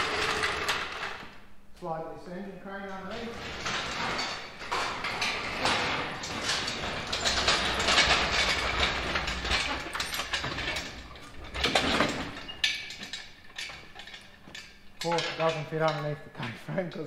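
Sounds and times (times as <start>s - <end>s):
metal clattering and scraping: 2.9s - 17.0s.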